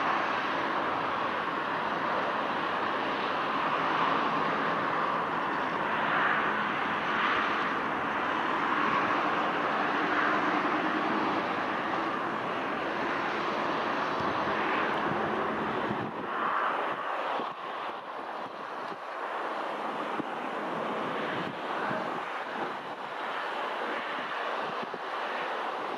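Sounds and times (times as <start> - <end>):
jet engines roaring: 0.0 - 25.9.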